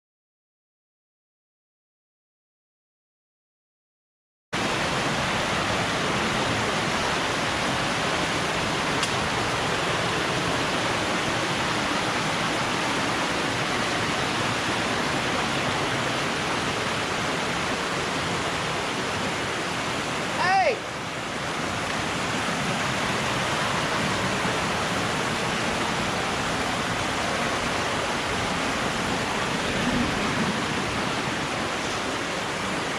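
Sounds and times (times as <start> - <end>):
waterfall and creek rushing: 4.6 - 32.9.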